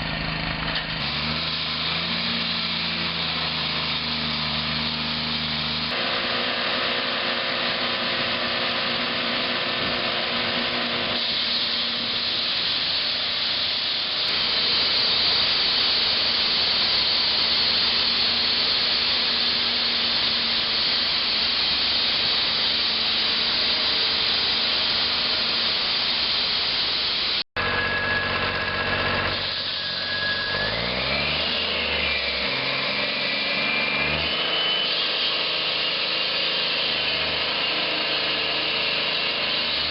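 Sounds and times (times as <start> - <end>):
engine tones rising and falling: 0.0 - 39.9
heavy machinery running: 0.0 - 39.9.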